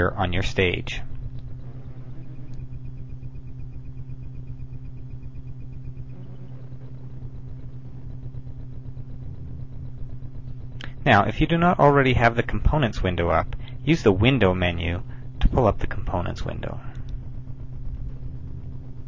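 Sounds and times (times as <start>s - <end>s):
faint high pulsing tone: 0.0s - 19.0s
steady low hum: 0.0s - 19.0s.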